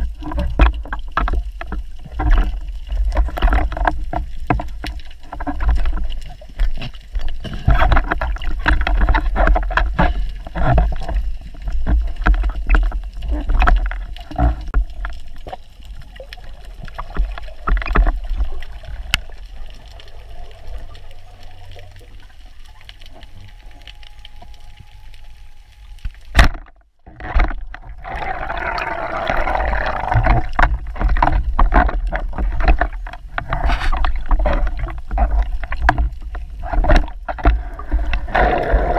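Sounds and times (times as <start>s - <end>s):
water rushing underwater: 0.0s - 38.9s.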